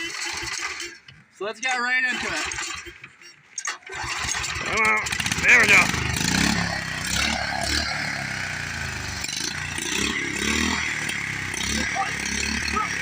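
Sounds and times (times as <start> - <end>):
garden tractor engine under load: 0.0 - 13.0.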